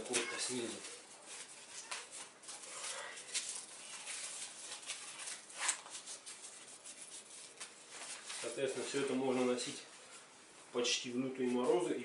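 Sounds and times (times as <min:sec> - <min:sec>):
jacket fabric rustling: 0:00.0 - 0:10.8.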